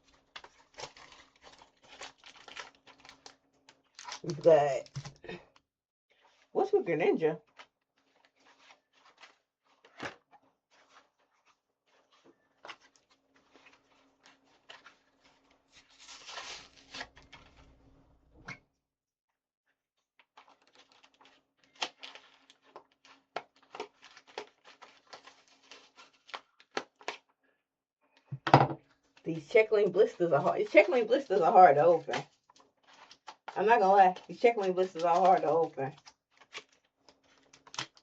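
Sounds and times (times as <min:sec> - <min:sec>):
plastic packaging crackling: 0:00.0 - 0:05.5, 0:07.4 - 0:17.7, 0:20.2 - 0:27.2, 0:29.4 - 0:38.0.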